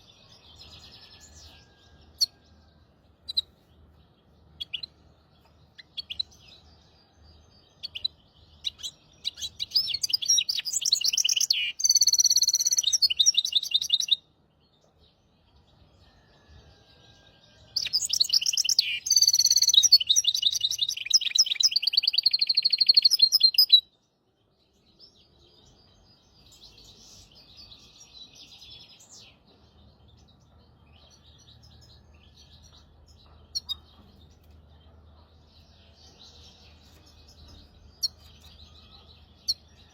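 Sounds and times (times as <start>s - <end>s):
bird singing trills and twitters: 0.0s - 39.9s.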